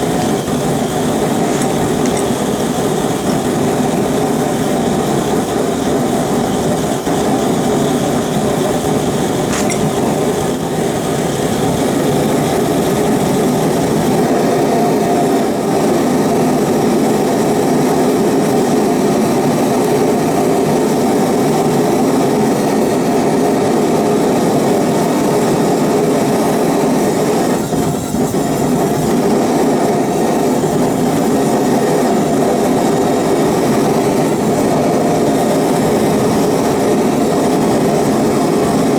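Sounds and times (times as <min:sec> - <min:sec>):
gas forge burner roaring: 0:00.0 - 0:38.9.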